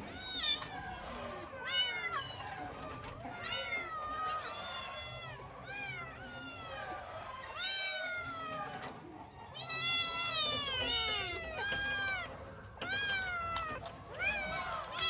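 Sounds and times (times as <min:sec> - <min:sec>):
kittens meowing: 0:00.0 - 0:15.0.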